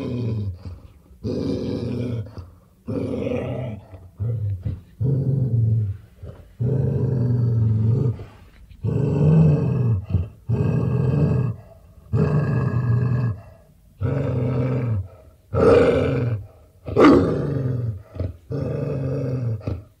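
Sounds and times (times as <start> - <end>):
dog growling: 0.0 - 20.0.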